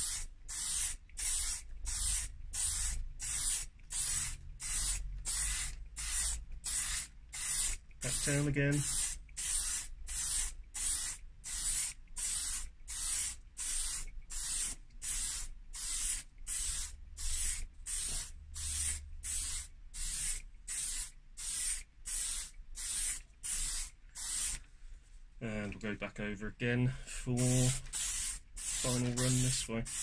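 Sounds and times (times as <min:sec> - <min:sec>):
aerosol can spraying: 0:00.0 - 0:24.6, 0:27.4 - 0:30.0.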